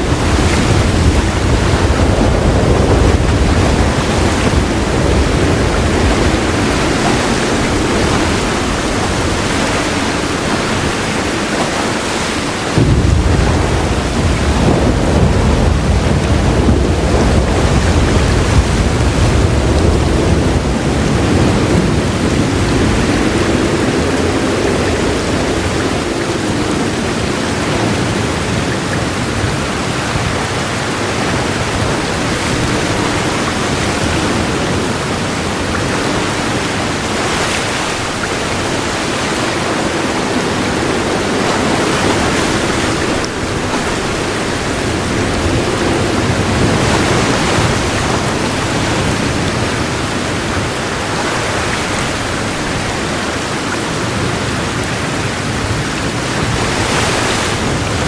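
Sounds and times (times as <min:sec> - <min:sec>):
low roll of thunder: 0:00.0 - 0:11.6, 0:12.4 - 0:56.9
heavy rain pouring: 0:00.0 - 0:58.0.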